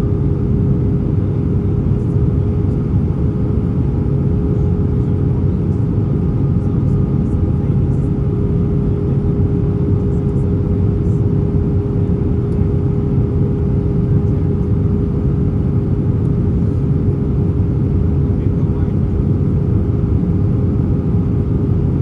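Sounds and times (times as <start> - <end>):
aircraft engines and airflow rumble: 0.0 - 22.0
constant hum tone: 0.0 - 22.0.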